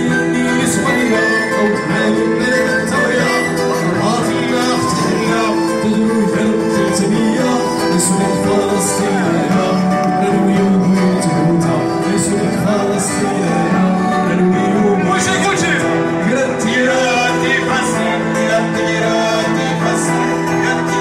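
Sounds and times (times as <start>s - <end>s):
keyboard accompaniment: 0.0s - 21.0s
person singing: 0.0s - 21.0s
strummed acoustic guitar: 0.0s - 21.0s.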